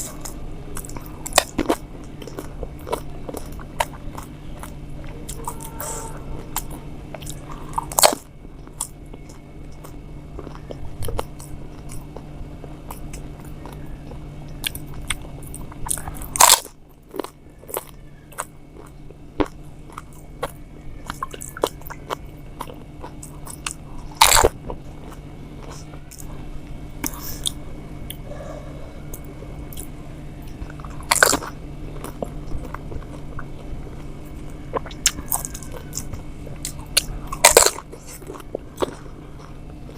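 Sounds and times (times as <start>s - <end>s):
woman crunching crisp shells: 0.0s - 26.3s, 29.1s - 39.9s
background hum: 0.0s - 39.9s
chewing crackles: 0.0s - 39.9s.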